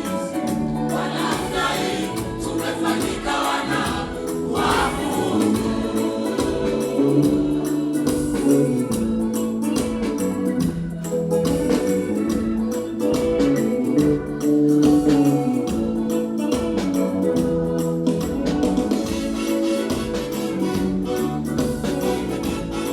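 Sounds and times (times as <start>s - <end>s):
organ-like keyboard chords: 0.0s - 22.9s
steady percussion beat: 0.0s - 22.9s.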